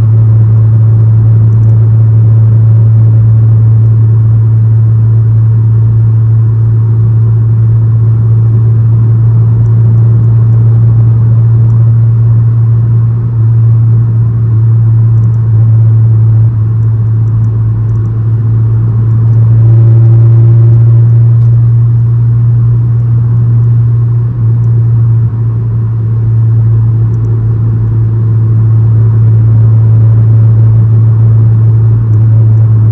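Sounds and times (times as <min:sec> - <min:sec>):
car engine droning: 0:00.0 - 0:32.9.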